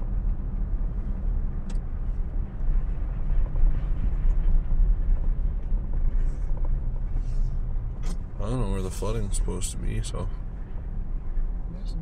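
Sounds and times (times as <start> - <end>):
car engine: 0.0 - 12.0.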